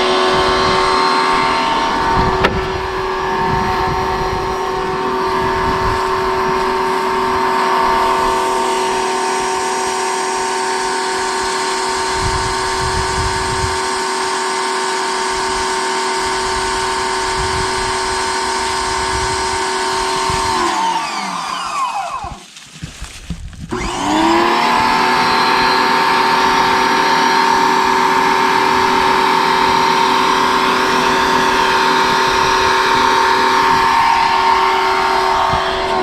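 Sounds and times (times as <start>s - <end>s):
pressure washer motor whine: 0.0s - 22.4s, 23.7s - 36.0s.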